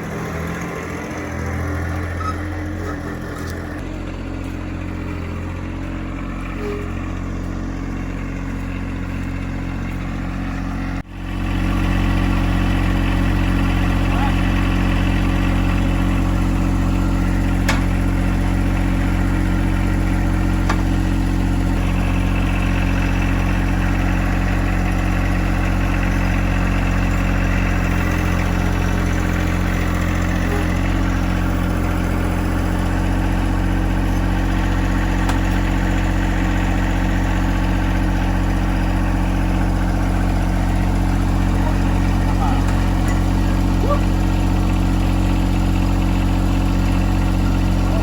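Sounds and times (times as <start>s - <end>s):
band sawmill running: 0.0s - 48.0s.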